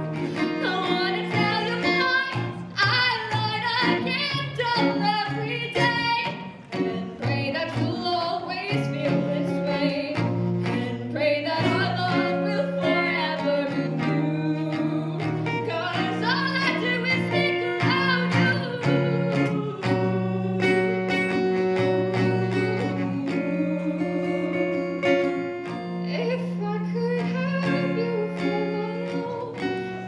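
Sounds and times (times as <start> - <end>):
guitar accompaniment: 0.0 - 30.0
person singing with vibrato: 0.0 - 30.0.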